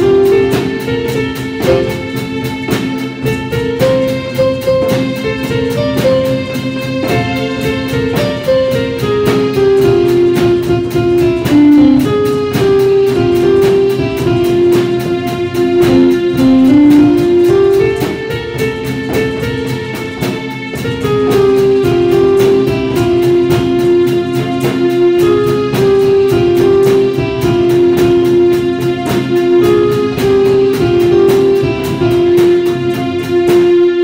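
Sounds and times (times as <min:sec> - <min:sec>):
band playing instrumental: 0:00.0 - 0:34.0
drum kit: 0:00.0 - 0:34.0
hand drums: 0:00.0 - 0:34.0.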